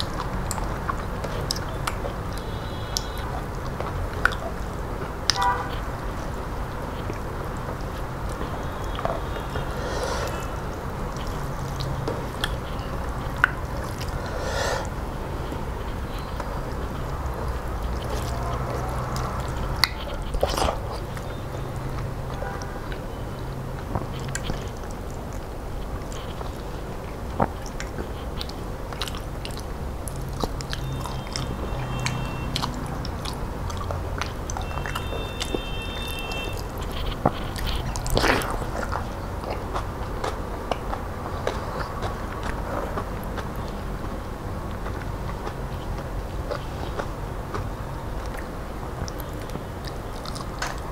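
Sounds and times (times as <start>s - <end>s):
wet mouth clicks and smacks: 0.0s - 23.1s, 23.8s - 50.9s
fingers squishing food on a plate: 0.0s - 43.8s
person chewing food: 0.0s - 50.9s.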